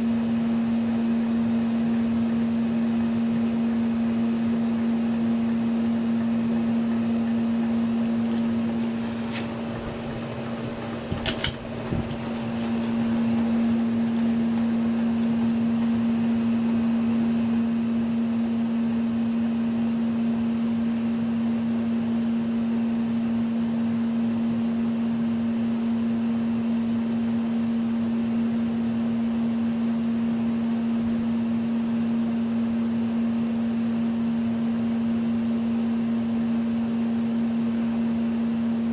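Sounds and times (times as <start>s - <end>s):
ceiling fan motor hum: 0.0s - 38.9s.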